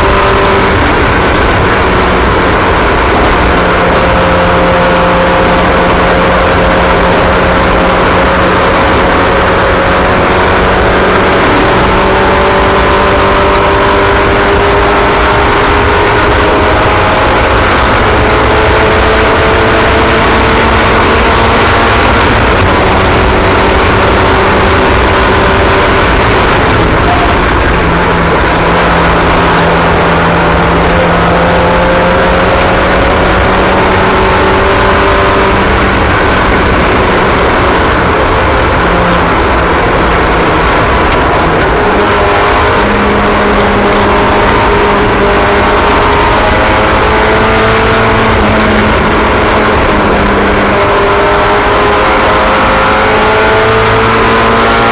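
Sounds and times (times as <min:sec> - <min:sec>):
race car engines running: 0:00.0 - 0:54.9.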